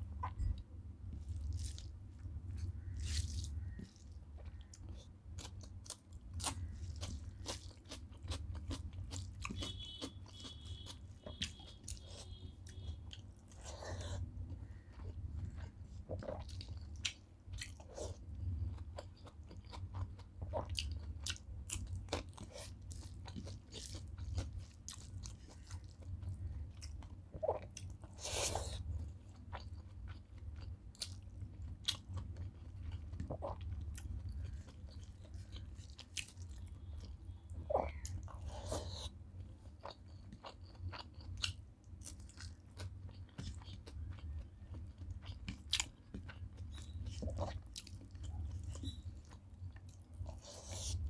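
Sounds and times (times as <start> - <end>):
close-up chewing: 0.2 - 51.0.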